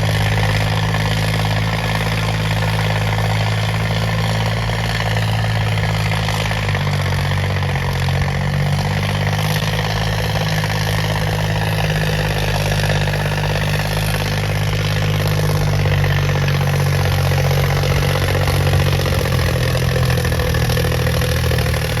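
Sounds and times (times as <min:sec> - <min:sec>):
tractor diesel engine idling: 0:00.0 - 0:22.0.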